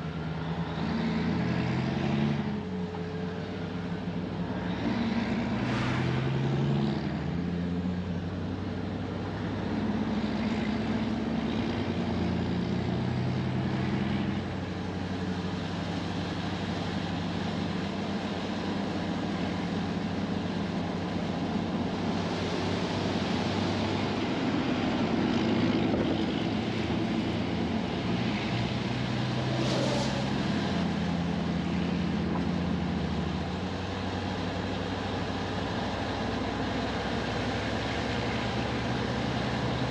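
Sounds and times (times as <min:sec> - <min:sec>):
road noise: 0:00.0 - 0:39.9
truck engine: 0:00.0 - 0:39.9.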